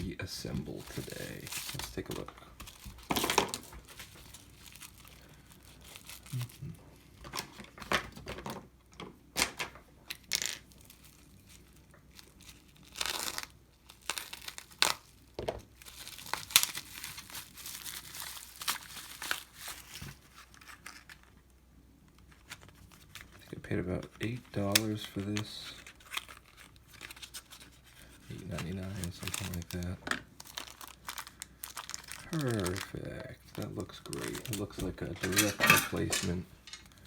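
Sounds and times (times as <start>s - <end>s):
packaging tearing and crinkling: 0.6s - 8.3s, 10.1s - 21.4s, 22.3s - 37.0s.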